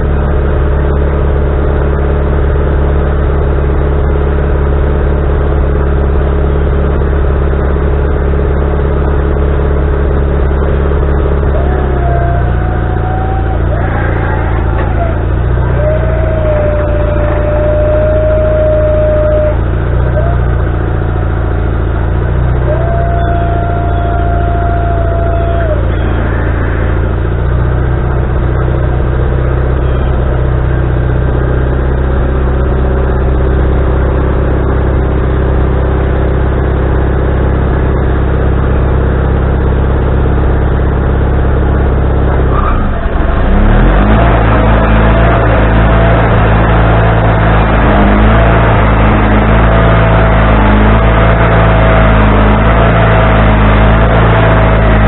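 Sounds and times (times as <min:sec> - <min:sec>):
sawmill running: 0:00.0 - 0:55.0.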